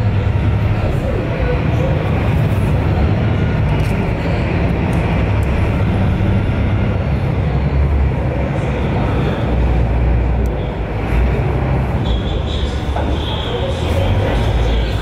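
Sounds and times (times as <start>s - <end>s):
ferry engine rumble: 0.0s - 15.0s.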